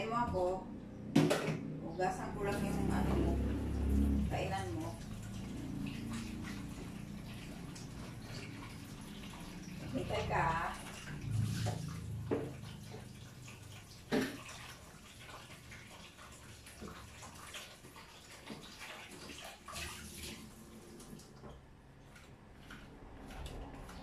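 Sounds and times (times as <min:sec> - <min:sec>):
tap water running and splashing: 0:01.1 - 0:24.0.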